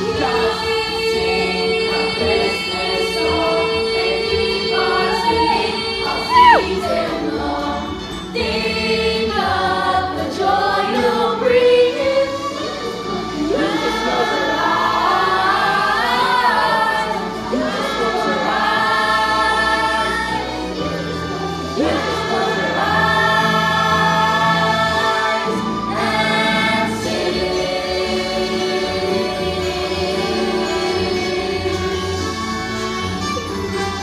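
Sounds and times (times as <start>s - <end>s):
cast singing in chorus: 0.0s - 32.4s
instrumental accompaniment: 0.0s - 34.0s.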